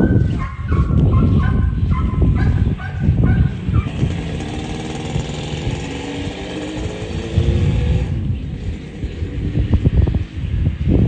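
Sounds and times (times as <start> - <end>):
motorbike engine rumble: 0.0 - 11.0
wind: 0.0 - 11.0.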